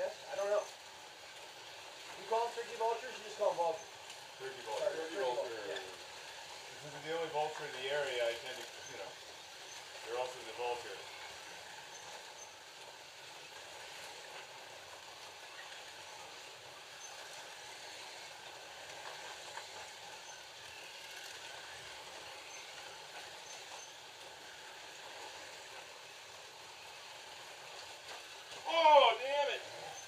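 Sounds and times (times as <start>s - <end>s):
slot cars whirring on track: 0.0s - 30.0s.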